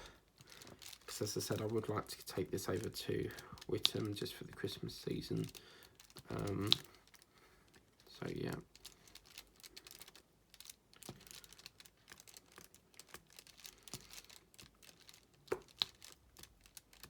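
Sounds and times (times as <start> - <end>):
plastic film crinkling: 0.0 - 17.0.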